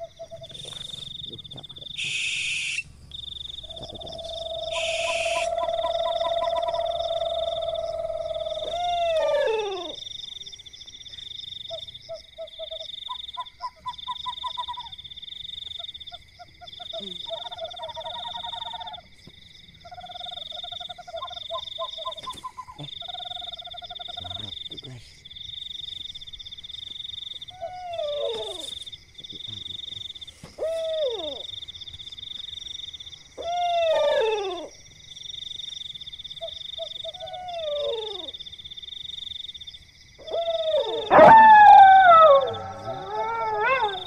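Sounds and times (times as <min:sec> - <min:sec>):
frogs croaking: 0:00.0 - 0:44.0
insects trilling: 0:00.0 - 0:44.0.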